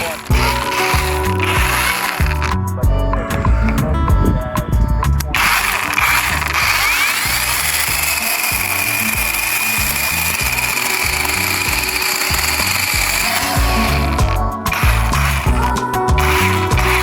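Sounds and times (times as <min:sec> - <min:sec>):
mini chainsaw running: 0:00.0 - 0:02.6, 0:05.4 - 0:17.0
background music with steady beat: 0:00.0 - 0:17.0.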